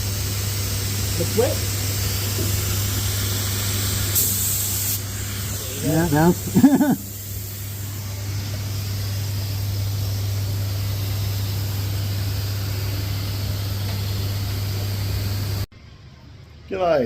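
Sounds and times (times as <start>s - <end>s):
spray gun hissing: 0.0s - 15.7s
constant low hum: 0.0s - 16.7s.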